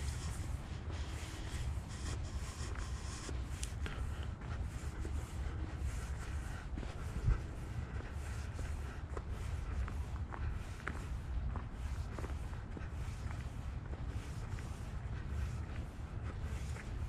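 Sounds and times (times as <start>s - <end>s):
footsteps on dry leaves: 0.0s - 17.0s
low wind rumble: 0.0s - 17.0s.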